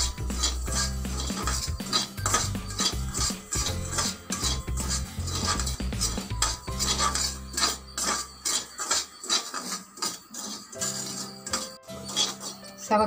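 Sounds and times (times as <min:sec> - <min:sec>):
metal ladle scraping a pan: 0:00.0 - 0:13.0.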